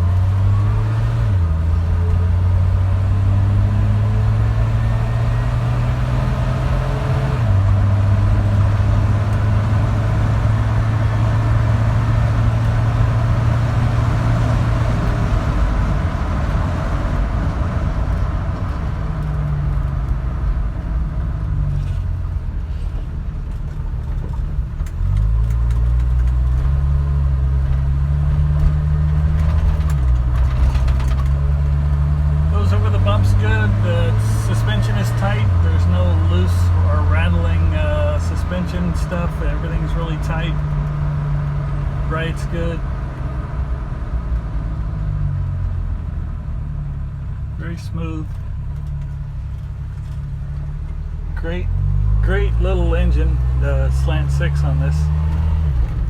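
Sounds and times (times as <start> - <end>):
pickup engine running: 0.0 - 56.0
road noise: 0.0 - 56.0.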